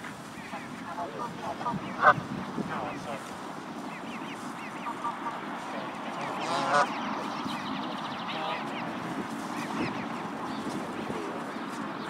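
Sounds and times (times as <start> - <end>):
goose honk: 0.0 - 11.7
goslings peeping: 0.0 - 12.0.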